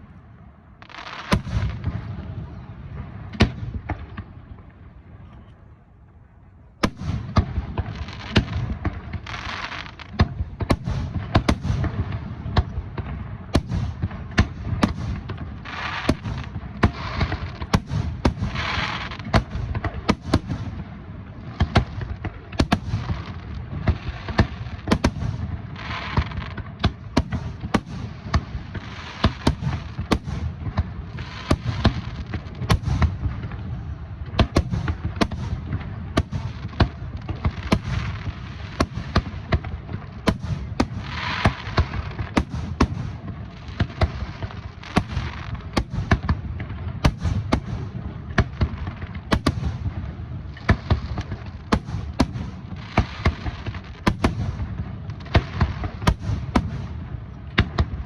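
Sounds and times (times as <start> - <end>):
rapid barrage of firework bangs: 0.8 - 4.3, 6.8 - 58.0.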